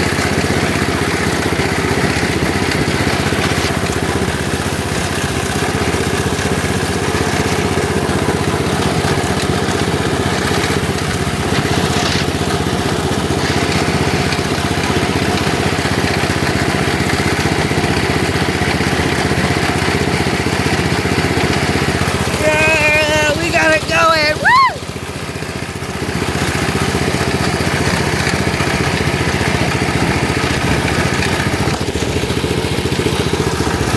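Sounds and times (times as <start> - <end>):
lawn tractor engine running: 0.0 - 33.9.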